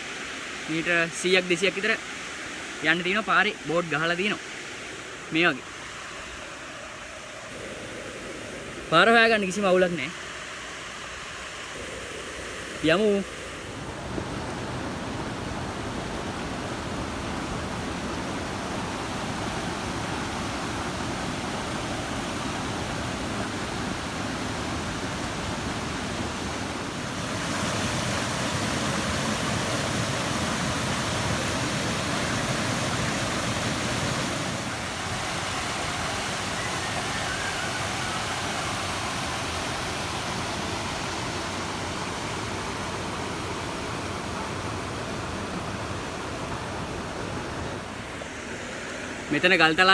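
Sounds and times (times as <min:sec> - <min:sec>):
rushing falling water: 0:00.0 - 0:49.9.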